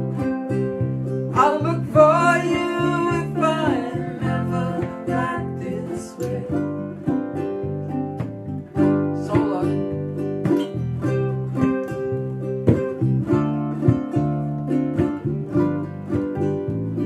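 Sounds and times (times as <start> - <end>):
strummed string instrument chords: 0.0 - 17.0.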